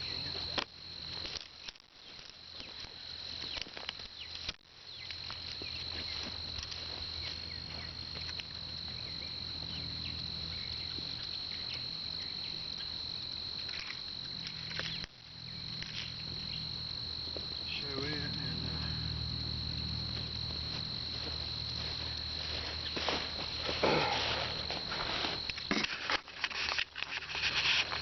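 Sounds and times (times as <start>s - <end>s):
high insect trill: 0.0s - 28.0s.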